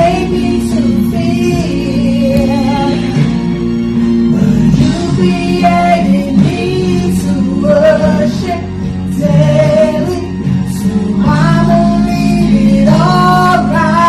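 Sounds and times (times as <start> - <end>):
woman singing: 0.0 - 3.5, 4.3 - 14.0
instrumental backing: 0.0 - 14.0.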